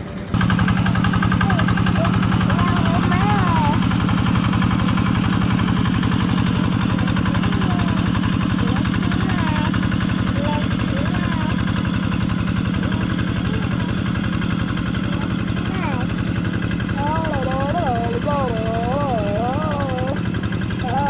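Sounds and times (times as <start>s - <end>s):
diesel tractor engine chugging: 0.0s - 21.0s.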